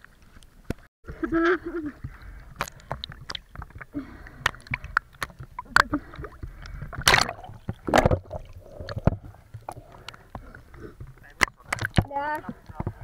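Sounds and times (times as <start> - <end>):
water sloshing around boat: 1.1 - 13.0.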